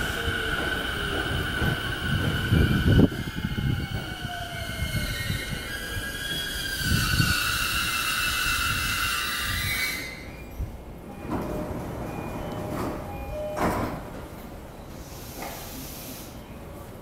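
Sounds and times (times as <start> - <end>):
train wheels rumbling: 0.0 - 16.8.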